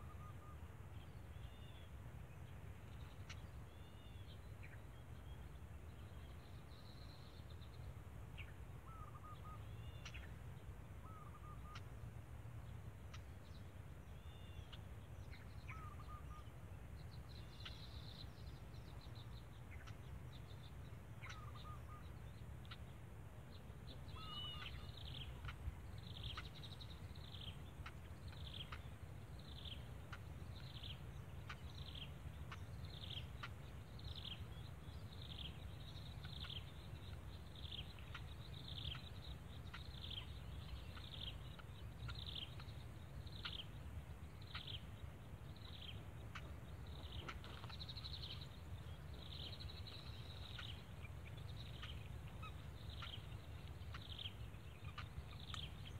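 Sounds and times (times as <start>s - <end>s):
steady low rumble: 0.0s - 55.9s
bird chirps: 2.9s - 10.4s, 11.0s - 11.9s, 13.1s - 22.9s, 23.5s - 55.9s.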